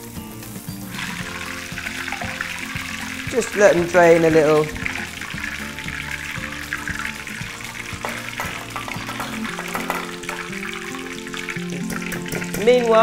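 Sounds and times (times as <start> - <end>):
background music with held notes: 0.0 - 13.0
hot oil sizzling in a wok: 0.0 - 13.0.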